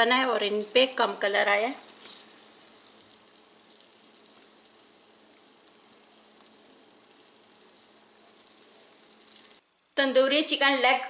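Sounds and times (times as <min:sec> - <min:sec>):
chicken sizzling in a pan: 0:00.0 - 0:09.9.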